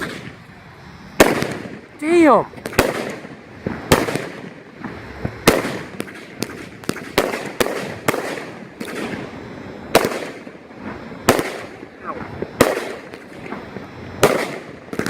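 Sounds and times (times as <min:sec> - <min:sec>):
fireworks bangs: 0:00.0 - 0:15.0
fireworks pops and crackling hiss: 0:00.0 - 0:15.0.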